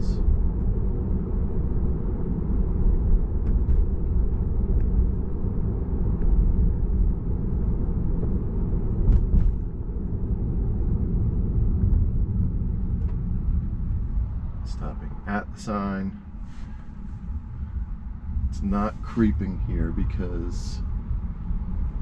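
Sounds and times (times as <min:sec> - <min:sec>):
road and tyre rumble in car: 0:00.0 - 0:22.0.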